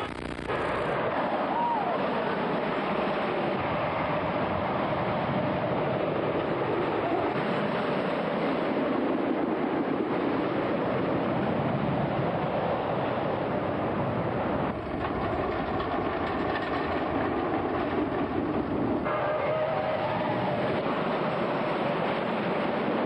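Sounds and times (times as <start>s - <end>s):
roller coaster rattling on track: 1.0s - 23.0s.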